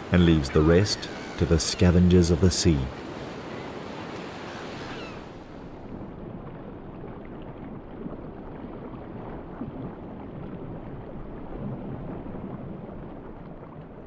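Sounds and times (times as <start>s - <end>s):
sea water sloshing: 0.0s - 14.0s.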